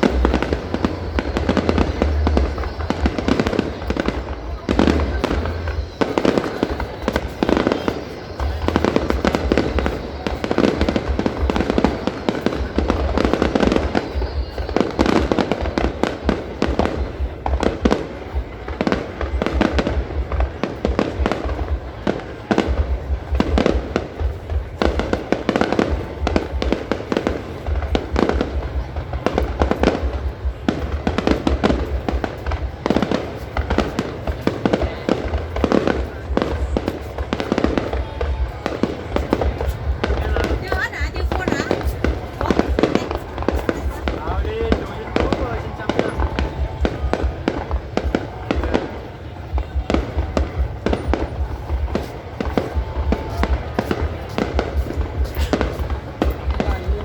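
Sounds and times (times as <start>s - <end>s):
deep fireworks booms: 0.0s - 57.0s
fireworks bangs and crackles: 0.0s - 57.0s.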